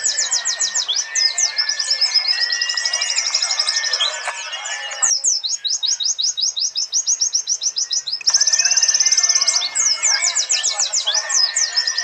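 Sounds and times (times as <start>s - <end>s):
fast high bird trill: 0.0s - 5.9s, 7.8s - 12.0s
birds chattering calls: 0.0s - 12.0s
birds singing high clear notes: 0.0s - 12.0s.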